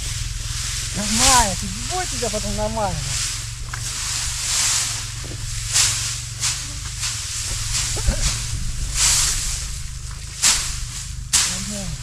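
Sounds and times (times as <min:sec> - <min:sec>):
dry hay swishing and rustling: 0:00.0 - 0:12.0.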